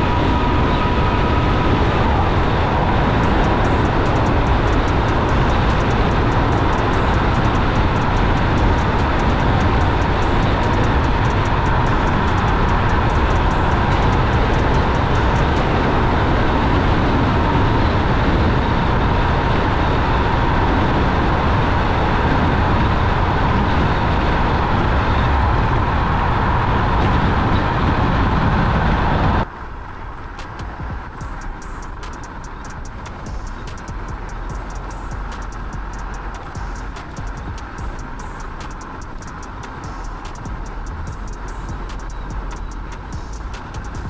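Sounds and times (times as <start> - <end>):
faint steady whine: 0.0 - 44.0
wind rush on microphone: 0.0 - 44.0.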